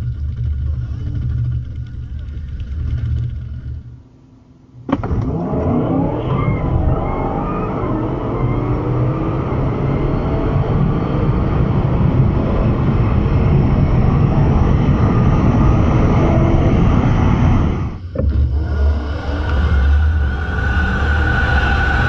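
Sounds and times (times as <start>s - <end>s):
steady low hum: 0.0s - 5.3s, 9.4s - 22.0s
car engine and road noise: 0.0s - 22.0s.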